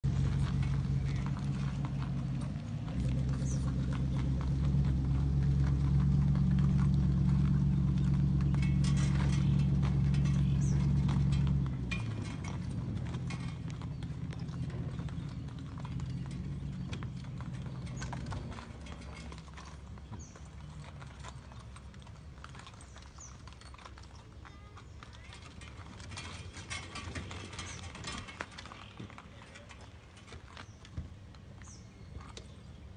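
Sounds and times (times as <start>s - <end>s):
horse hooves on pavement: 0.0s - 32.9s
vehicle engine idling: 0.0s - 32.9s.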